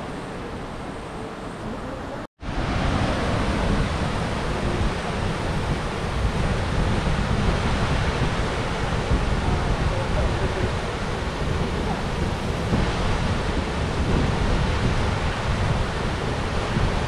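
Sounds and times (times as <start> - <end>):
mountain stream rushing: 0.0 - 17.0
wind buffeting microphone: 0.0 - 17.0.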